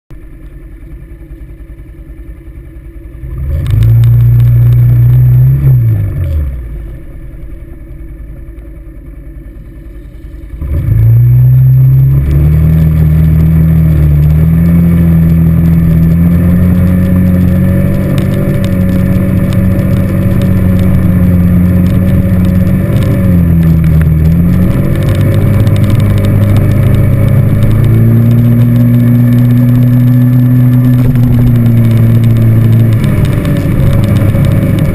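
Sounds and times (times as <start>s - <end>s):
quad bike engine revving: 3.2s - 7.6s, 9.5s - 34.9s.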